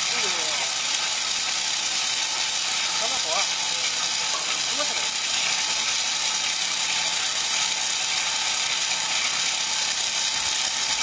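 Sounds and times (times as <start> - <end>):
corn puffing machine rattling: 0.0 - 11.0.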